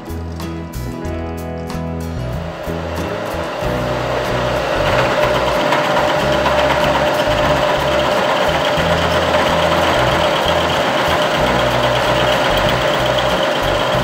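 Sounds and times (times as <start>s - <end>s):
milling machine cutting steel: 2.7s - 14.0s.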